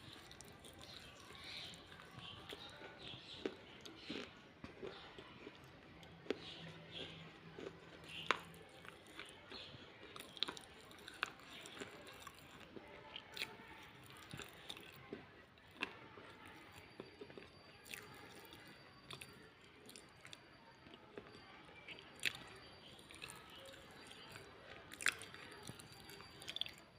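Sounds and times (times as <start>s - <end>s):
chewing crunchy clay pieces: 0.0s - 26.9s.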